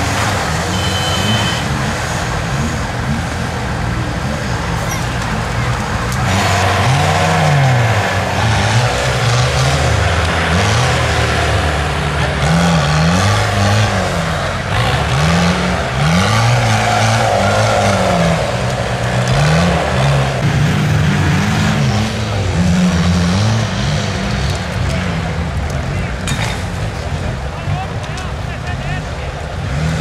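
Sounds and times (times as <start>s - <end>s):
off-road vehicle engine revving: 0.0s - 30.0s.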